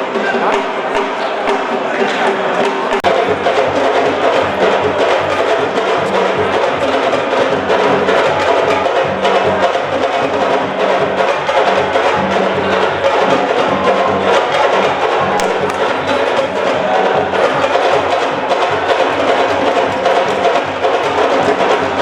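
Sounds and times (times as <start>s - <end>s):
music with fast drumming: 0.0s - 22.0s.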